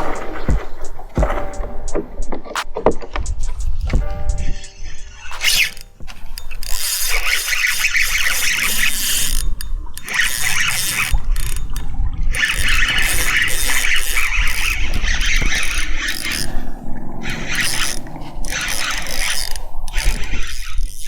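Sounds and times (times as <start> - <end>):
fishing reel clicking: 3.0 - 21.0.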